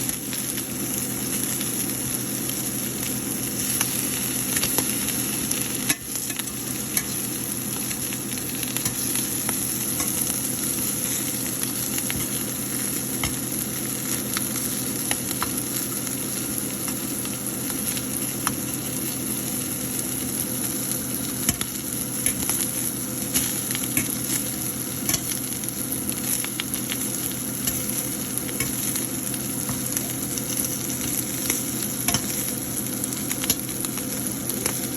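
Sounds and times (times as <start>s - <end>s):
fish sizzling in hot oil: 0.0s - 34.9s.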